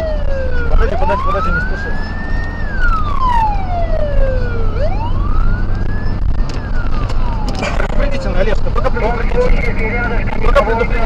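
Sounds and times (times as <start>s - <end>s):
car engine and tyre rumble: 0.0s - 11.0s
police siren wailing: 0.0s - 11.0s.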